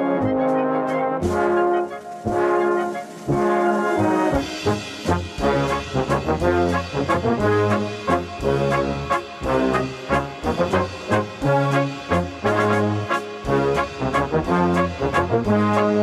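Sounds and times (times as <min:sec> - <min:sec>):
brass band playing a waltz: 0:00.0 - 0:16.0
drums with cymbals: 0:01.2 - 0:16.0.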